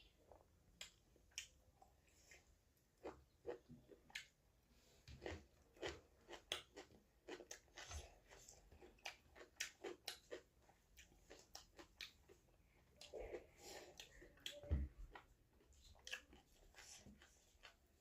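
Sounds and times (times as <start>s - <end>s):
person chewing crunchy food: 0.3s - 18.0s.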